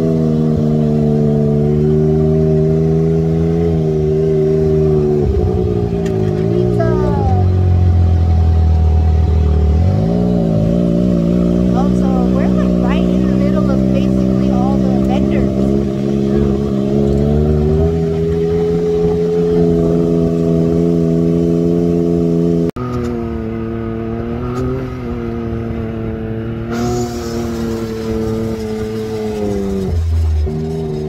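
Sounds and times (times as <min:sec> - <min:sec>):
engine running at cruise: 0:00.0 - 0:31.0.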